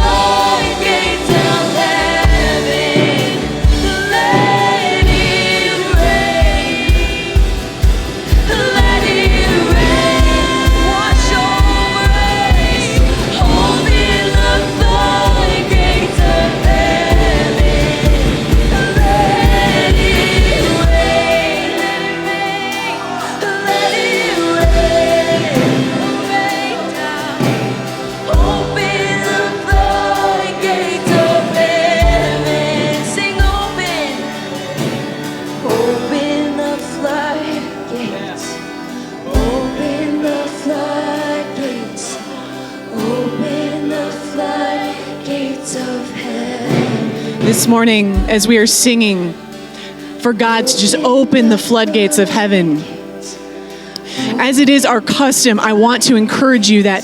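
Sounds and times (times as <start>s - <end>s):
keyboard: 0.0s - 57.0s
worship band with singers: 0.0s - 57.0s.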